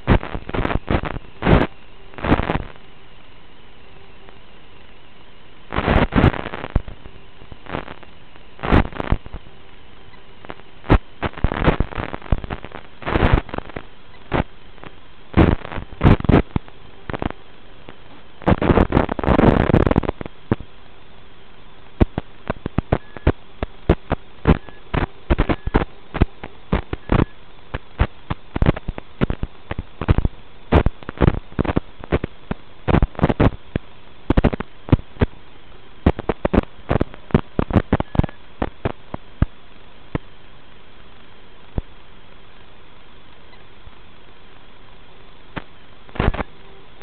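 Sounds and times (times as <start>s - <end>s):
faint steady hum: 0.0s - 47.0s
signal crackles and pops: 0.0s - 47.0s
video link static hiss: 0.0s - 47.0s.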